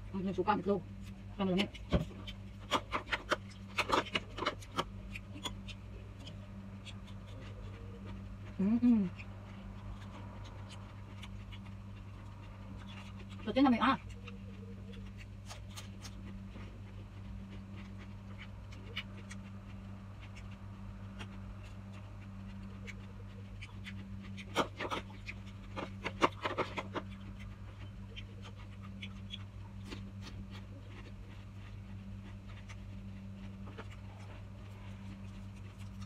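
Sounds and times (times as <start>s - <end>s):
chewing and crunching: 0.0s - 36.0s
steady low hum: 0.0s - 36.0s.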